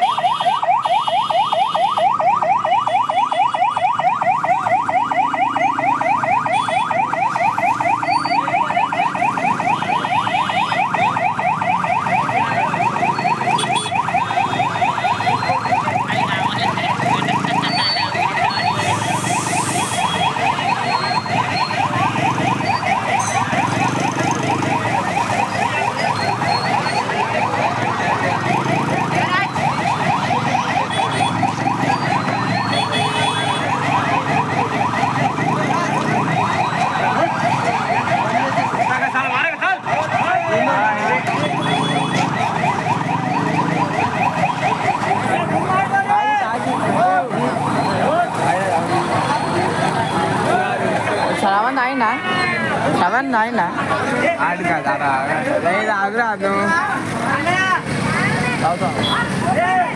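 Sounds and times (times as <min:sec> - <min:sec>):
crane warning siren warbling: 0:00.0 - 0:59.5.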